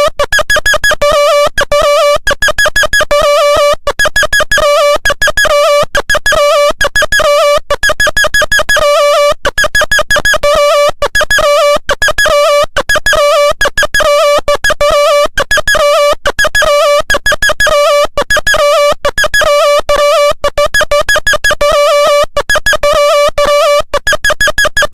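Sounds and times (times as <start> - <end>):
electronic phone ringtone melody: 0.0 - 24.9.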